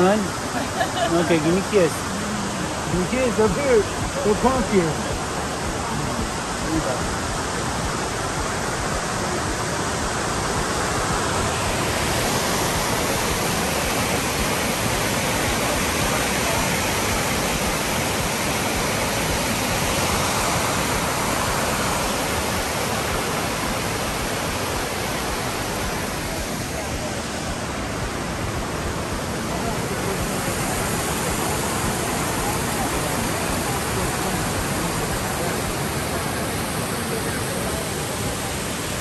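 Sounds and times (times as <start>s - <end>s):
creek water rushing over boulders: 0.0s - 39.0s.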